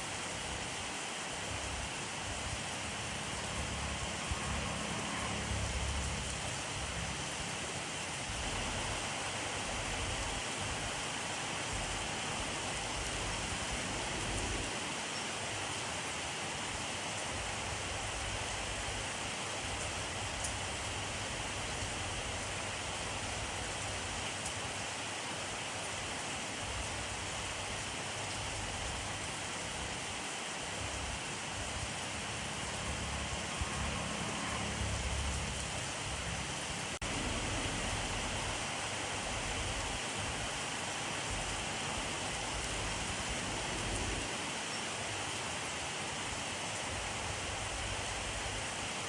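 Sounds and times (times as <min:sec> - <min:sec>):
steady rainfall: 0:00.0 - 0:49.0.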